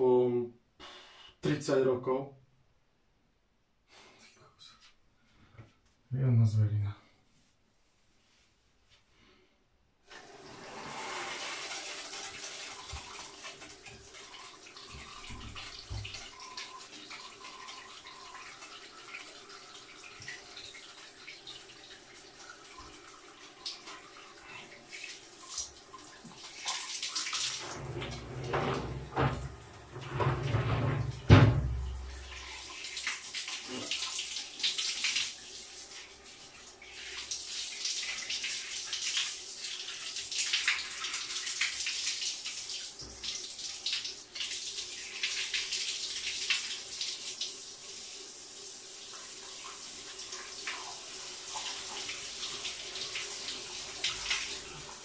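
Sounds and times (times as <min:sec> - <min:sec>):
shower water spraying: 0:10.1 - 0:55.0.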